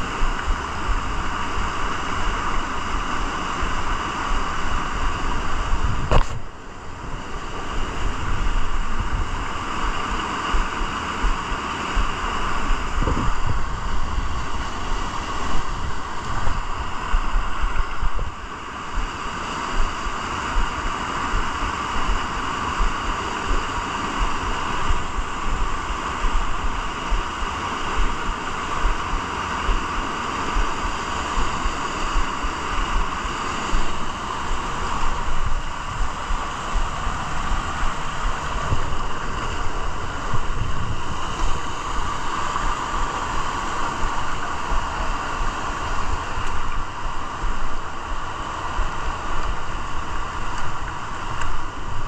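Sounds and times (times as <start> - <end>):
water rushing over boulders: 0.0 - 52.0
wind buffeting microphone: 0.0 - 52.0.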